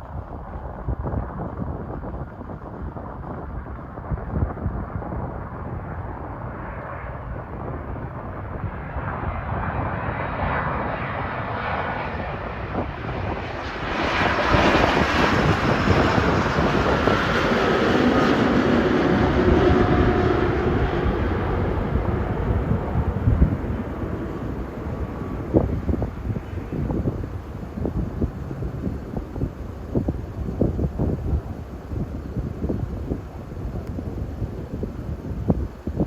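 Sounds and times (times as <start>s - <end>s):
aircraft engines rushing: 0.0s - 36.0s.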